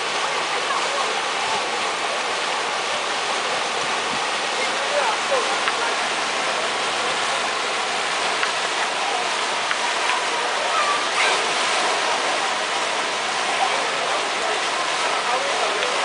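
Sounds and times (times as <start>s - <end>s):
water pouring into pool: 0.0s - 16.0s.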